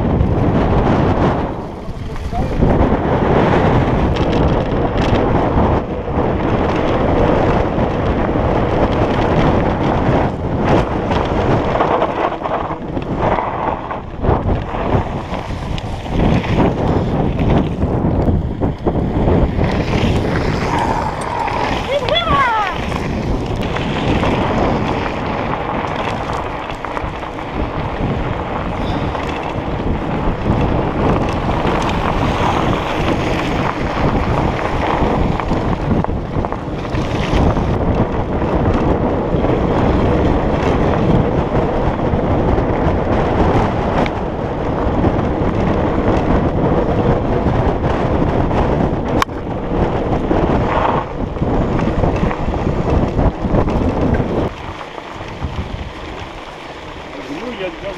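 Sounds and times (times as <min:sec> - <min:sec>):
mountain bike rattling on gravel: 0:00.0 - 0:57.9
wind noise on microphone: 0:00.0 - 0:57.9.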